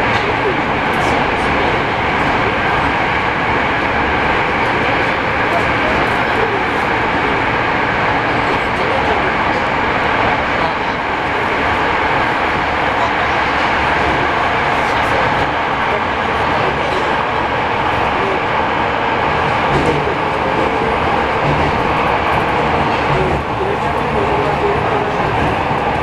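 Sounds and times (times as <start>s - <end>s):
subway train running in tunnel: 0.0s - 26.0s.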